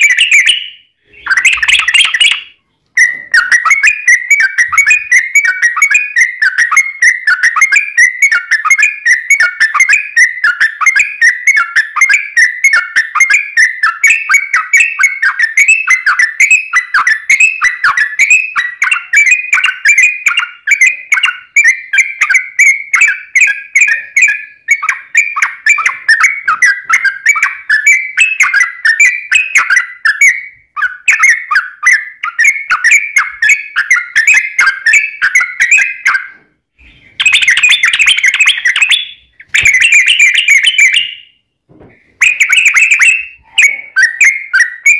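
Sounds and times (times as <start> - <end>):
bird singing whistled notes: 0.0 - 41.4, 42.1 - 44.9.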